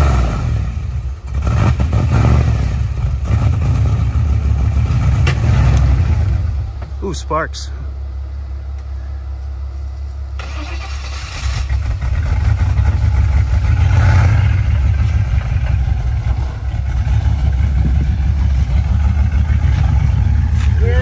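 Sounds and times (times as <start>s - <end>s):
off-road vehicle engine revving: 0.0s - 8.0s, 10.4s - 21.0s.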